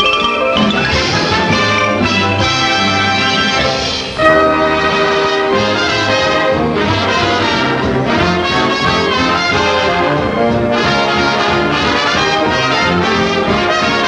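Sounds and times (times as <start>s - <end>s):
brass-led orchestral music: 0.0s - 14.0s.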